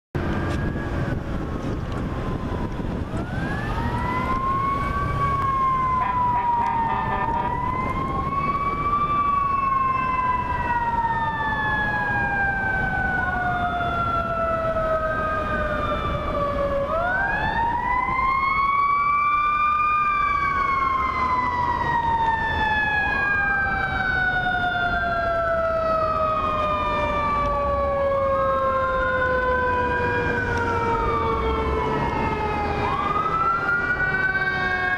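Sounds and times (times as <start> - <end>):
low traffic noise: 0.2 - 34.9
mechanical siren winding up and down: 0.2 - 34.9.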